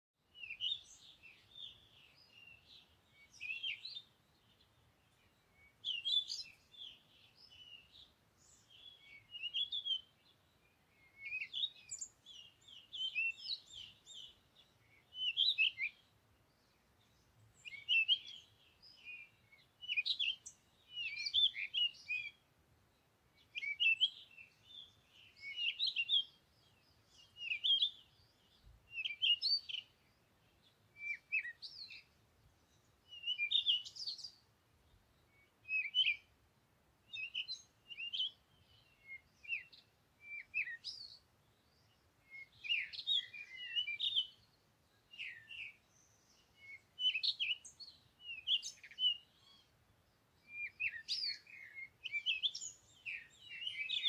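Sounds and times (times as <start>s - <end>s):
songbird chirping: 0.2s - 54.0s.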